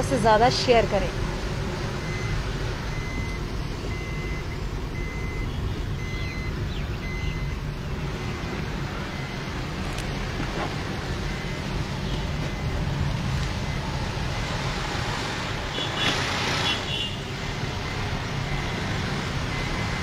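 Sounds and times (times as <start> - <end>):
road and traffic noise: 0.0 - 20.0.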